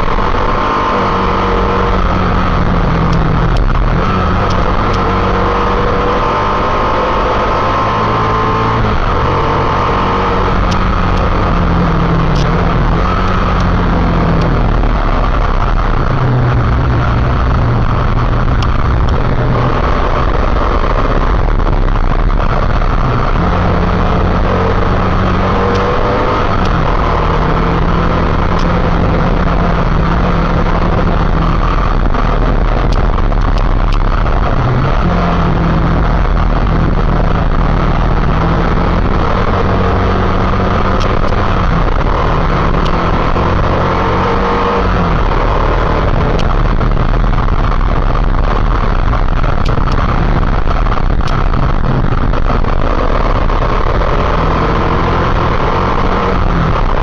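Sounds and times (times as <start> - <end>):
loud rushing noise: 0.0 - 57.0
motorcycle engine running: 0.0 - 57.0.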